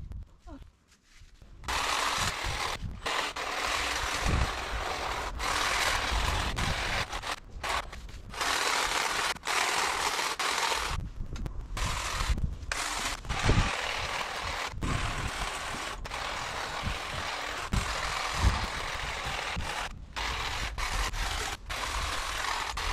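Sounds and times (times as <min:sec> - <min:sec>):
hedge trimmer cutting hedge: 0:01.6 - 0:11.0, 0:11.8 - 0:22.9.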